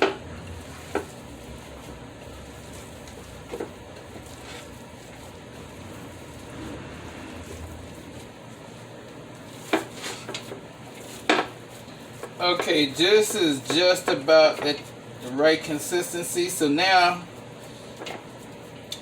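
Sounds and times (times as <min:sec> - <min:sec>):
hands squishing meat mixture: 0:00.2 - 0:15.8.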